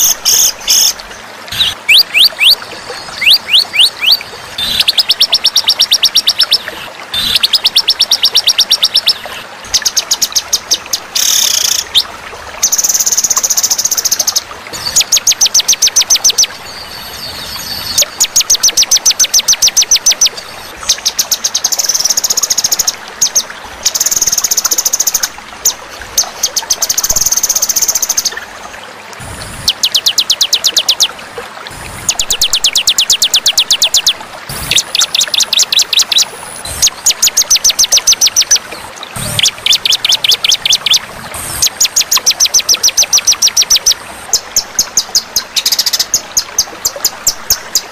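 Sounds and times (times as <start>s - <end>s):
songbird trills: 0.0s - 28.4s, 29.6s - 31.2s, 32.1s - 41.0s.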